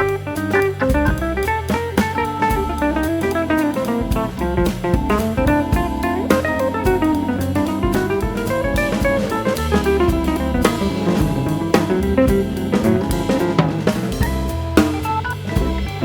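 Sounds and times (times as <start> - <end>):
drum kit beat: 0.0 - 16.0
melody: 2.2 - 16.0.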